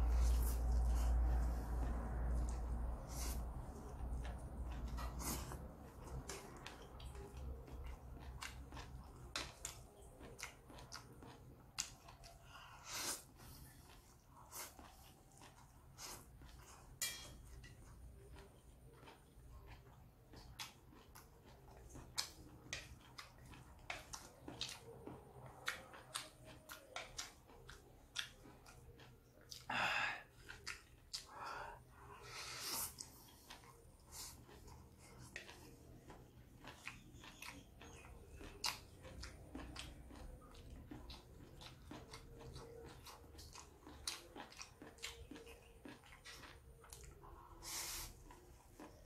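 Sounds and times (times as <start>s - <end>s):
wet chewing: 0.0s - 49.0s.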